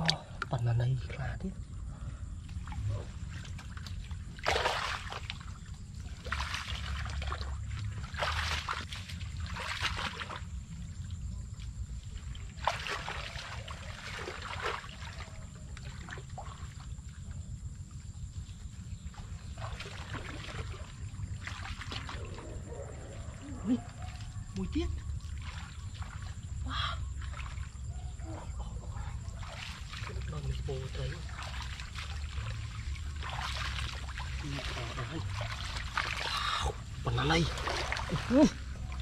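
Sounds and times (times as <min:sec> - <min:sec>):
pond water splashing: 0:00.0 - 0:00.5, 0:02.4 - 0:39.0.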